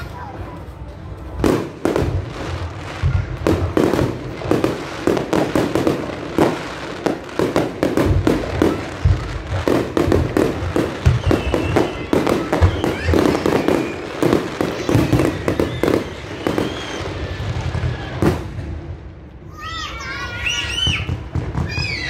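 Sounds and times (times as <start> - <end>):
fireworks bangs and booms: 0.0 - 22.0.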